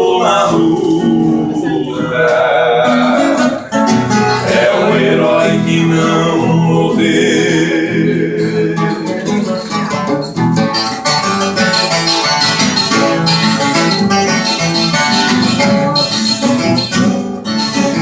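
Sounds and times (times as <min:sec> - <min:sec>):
plucked guitar melody: 0:00.0 - 0:18.0.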